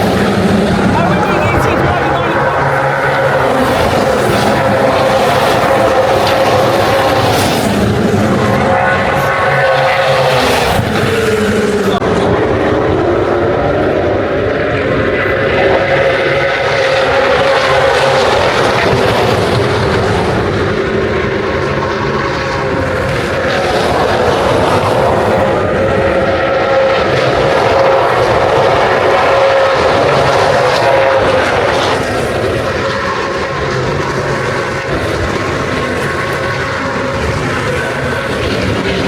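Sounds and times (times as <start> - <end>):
race car engines droning: 0.0 - 39.0.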